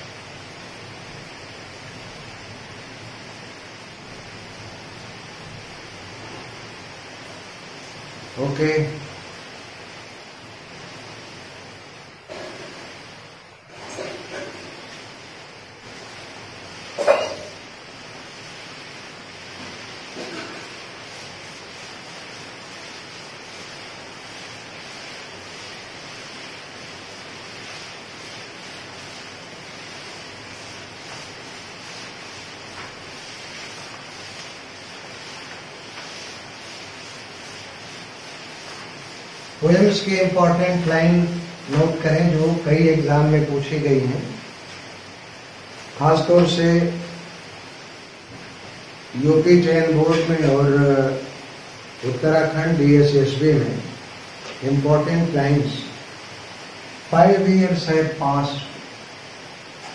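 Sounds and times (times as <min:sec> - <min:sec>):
duster swishing on whiteboard: 0:00.0 - 0:59.9
room noise hiss: 0:00.0 - 0:59.9.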